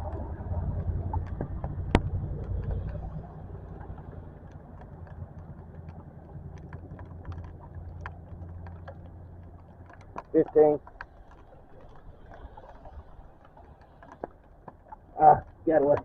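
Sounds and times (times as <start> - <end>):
drops ticking: 0.0 - 16.0
low steady hum: 0.0 - 16.0
rain falling: 0.0 - 16.0.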